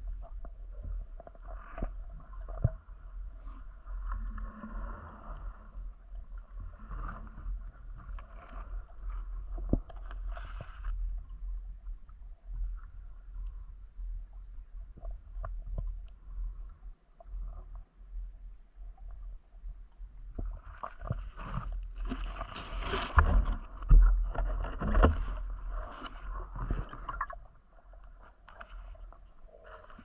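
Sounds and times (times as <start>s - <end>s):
water sloshing and gurgling: 0.0s - 30.0s.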